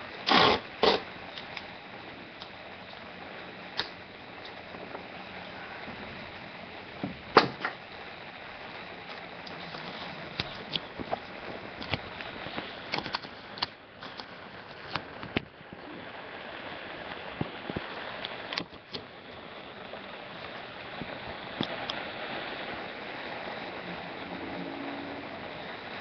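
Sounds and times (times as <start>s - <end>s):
heavy rain hissing: 0.0s - 26.0s.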